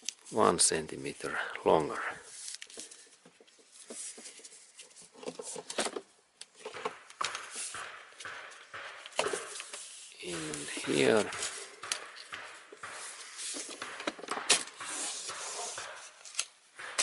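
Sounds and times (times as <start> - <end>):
handling rustling with small clicks: 2.3 - 16.6.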